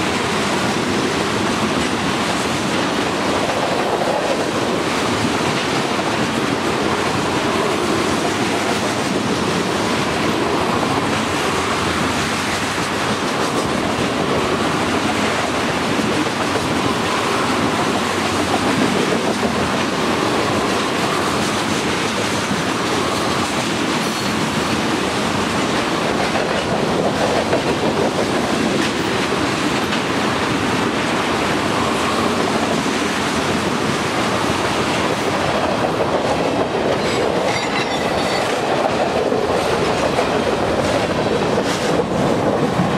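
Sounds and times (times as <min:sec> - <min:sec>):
freight train passing: 0:00.0 - 0:42.9
steel wheels clattering on rails: 0:00.0 - 0:42.9.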